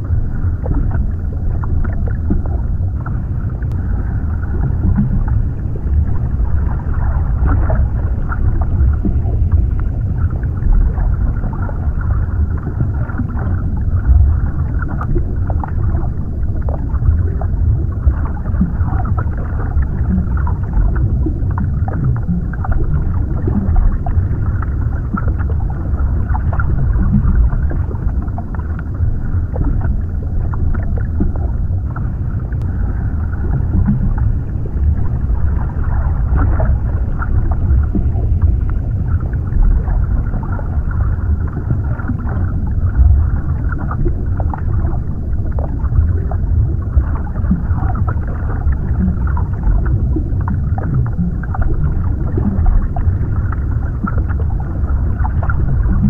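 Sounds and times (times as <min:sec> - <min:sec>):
underwater low rumble: 0:00.0 - 0:56.0.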